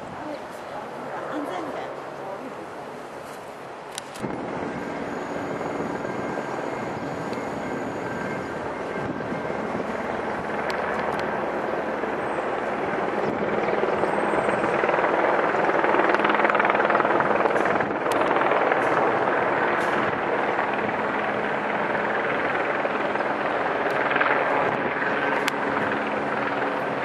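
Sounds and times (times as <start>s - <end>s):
helicopter rotor drone: 0.0s - 27.0s.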